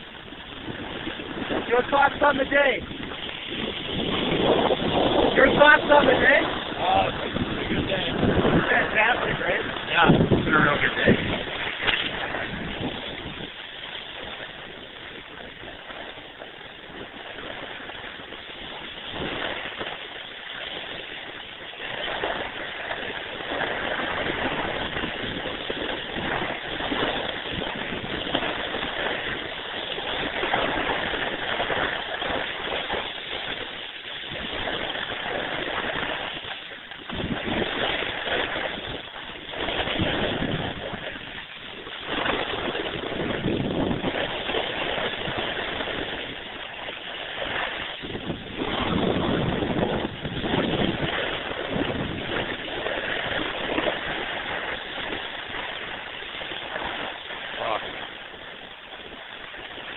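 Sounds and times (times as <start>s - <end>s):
board scraping over snow: 0.0s - 59.9s
wind buffeting microphone: 0.0s - 59.9s.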